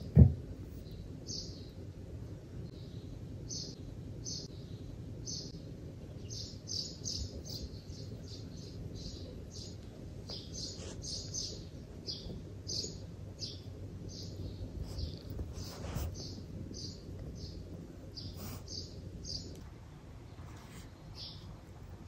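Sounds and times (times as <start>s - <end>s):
low background rumble: 0.0s - 22.0s
small birds chirping: 0.0s - 22.0s.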